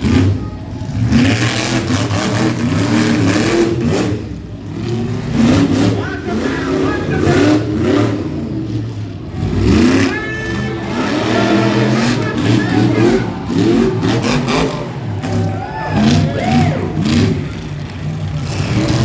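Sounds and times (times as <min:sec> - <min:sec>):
truck engines revving hard: 0:00.0 - 0:19.0.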